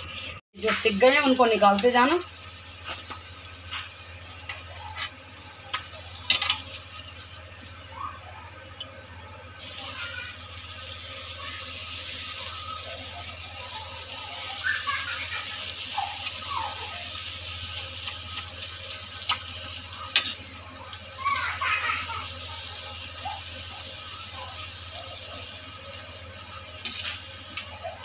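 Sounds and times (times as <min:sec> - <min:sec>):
dough sizzling in hot oil: 0:00.0 - 0:28.0.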